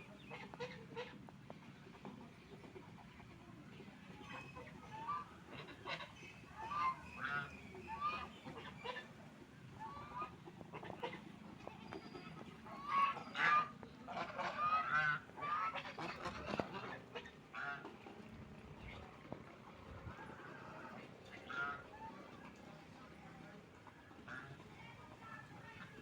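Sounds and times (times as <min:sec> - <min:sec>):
ducks quacking: 0:00.0 - 0:03.0, 0:04.2 - 0:22.6, 0:23.8 - 0:26.0.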